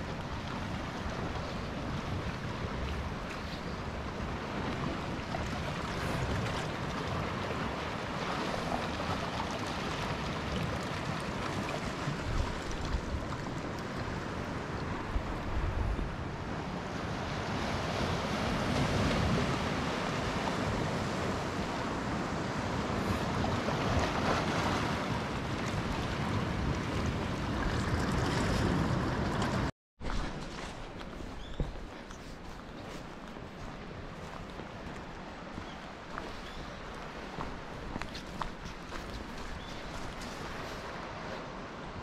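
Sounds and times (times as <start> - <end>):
wind buffeting microphone: 0.0 - 16.9, 17.5 - 42.0
sea waves washing on shore: 0.0 - 42.0.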